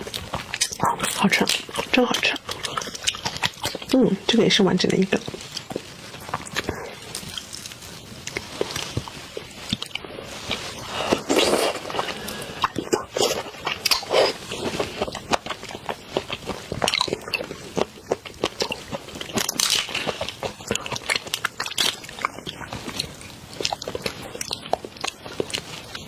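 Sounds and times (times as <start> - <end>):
chewing: 0.0 - 4.2, 4.8 - 26.0.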